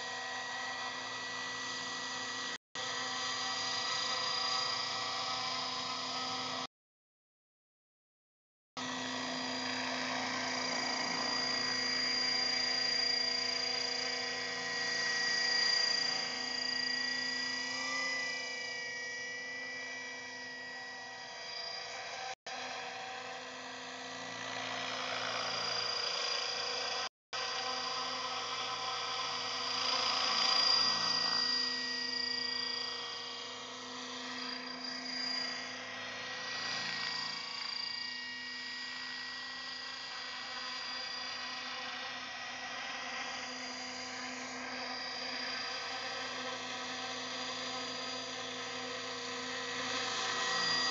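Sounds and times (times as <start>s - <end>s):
model helicopter whine: 0.0s - 6.7s, 8.8s - 50.9s.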